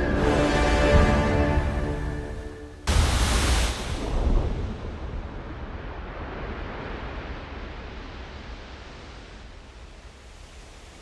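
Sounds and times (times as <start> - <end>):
water splashing and rushing: 0.0 - 11.0.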